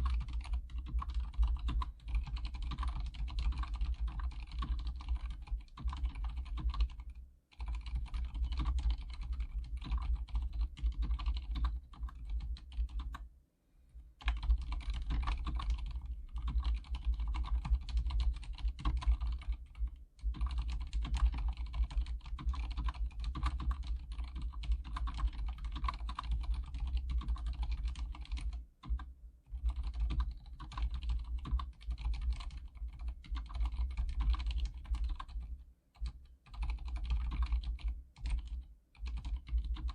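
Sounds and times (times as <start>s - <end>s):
fast typing on mechanical keyboard: 0.0s - 13.2s, 14.2s - 39.9s.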